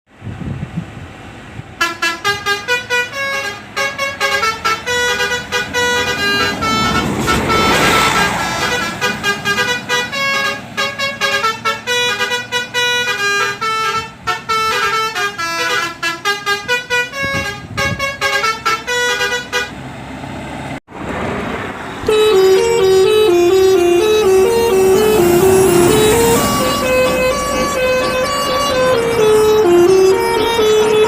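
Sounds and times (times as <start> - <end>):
lower-pitched horn tune: 1.8 - 19.7, 22.0 - 31.0
musical bus horn melody: 1.8 - 19.8, 22.0 - 31.0.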